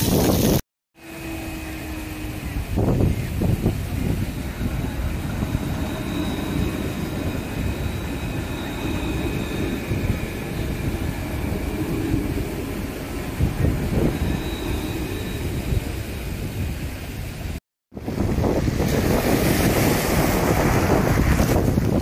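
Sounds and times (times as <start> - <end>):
tram wheels rumbling on rails: 0.0 - 22.0
faint high whine of tram drive: 1.0 - 22.0.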